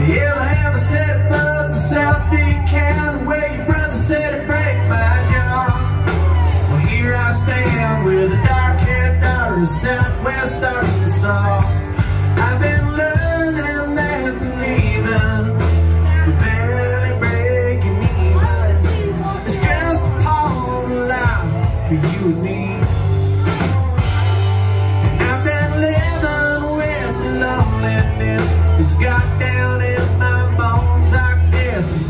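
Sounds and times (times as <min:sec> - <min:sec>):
drums: 0:00.0 - 0:32.0
electric guitars: 0:00.0 - 0:32.0
lead vocalist singing: 0:00.0 - 0:32.0
low bass notes: 0:00.0 - 0:32.0.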